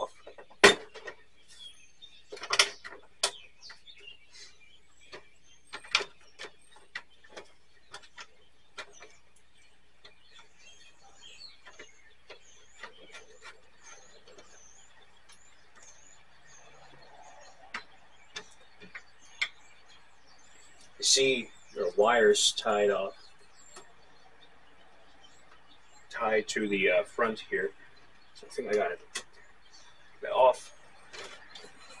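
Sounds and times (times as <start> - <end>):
bird chirping: 0.0 - 32.0.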